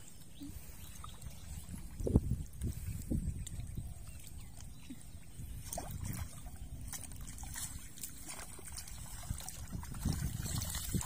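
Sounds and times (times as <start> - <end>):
muddy water sloshing: 0.0 - 11.0
small splashes: 0.0 - 11.0
steady low rumble: 0.0 - 11.0.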